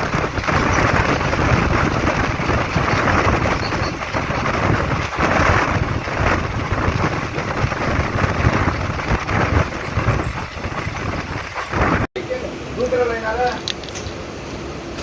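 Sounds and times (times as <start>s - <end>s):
passenger train rumbling on track: 0.0s - 15.0s.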